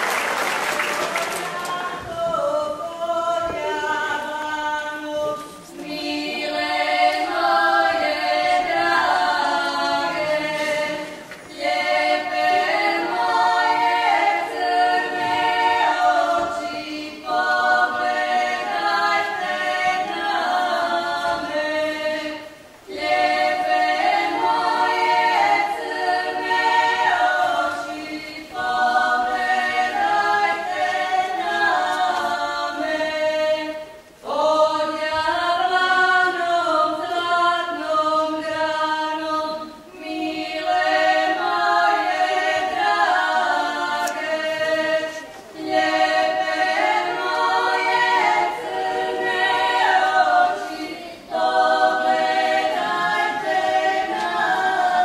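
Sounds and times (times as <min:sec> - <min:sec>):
women singing in harmony: 0:01.3 - 0:55.0.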